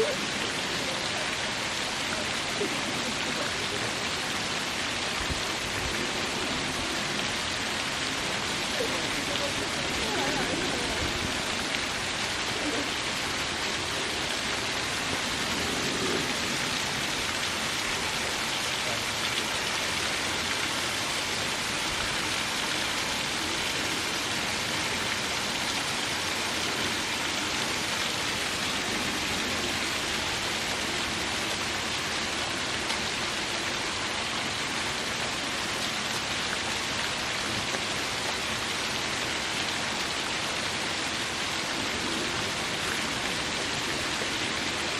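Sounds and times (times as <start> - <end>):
waterfall splashing over rocks: 0.0 - 44.9.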